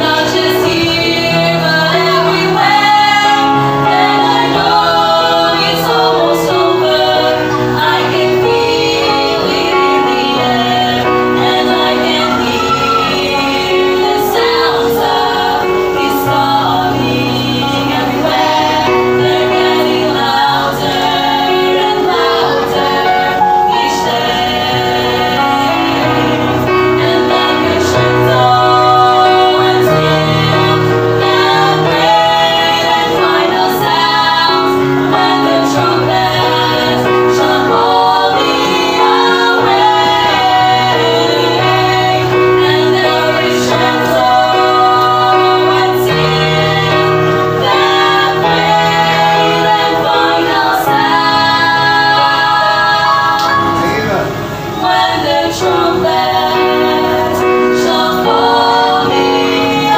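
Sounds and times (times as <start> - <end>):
instrumental accompaniment: 0.0 - 59.9
vocal trio singing in harmony: 0.0 - 59.9.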